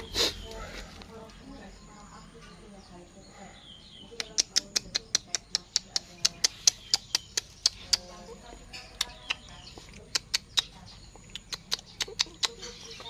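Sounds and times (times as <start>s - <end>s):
birds pecking on hard surface: 0.0s - 13.0s.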